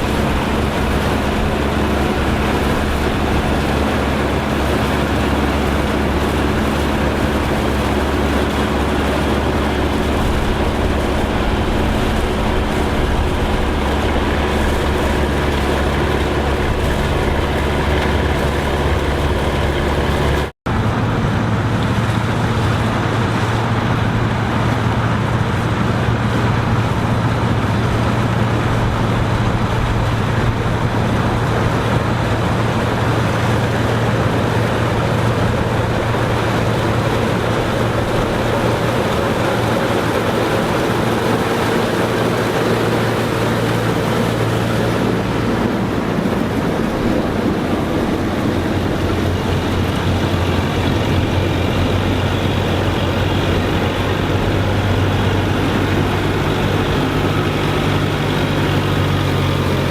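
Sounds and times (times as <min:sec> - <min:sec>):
old engine running: 0:00.0 - 0:59.9.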